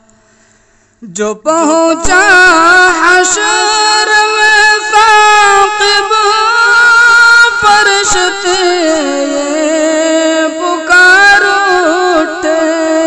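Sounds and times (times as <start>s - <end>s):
person singing long wavering notes: 1.2s - 13.0s.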